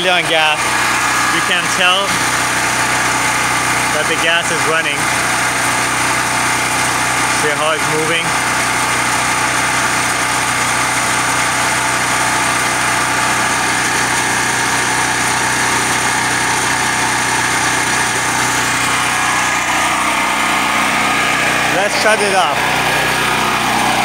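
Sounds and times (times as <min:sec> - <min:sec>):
generator engine running: 0:00.0 - 0:24.0.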